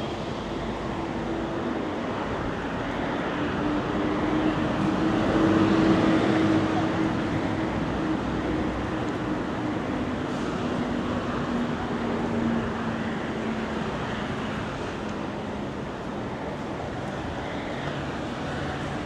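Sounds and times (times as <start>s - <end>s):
street background noise: 0.0s - 19.0s.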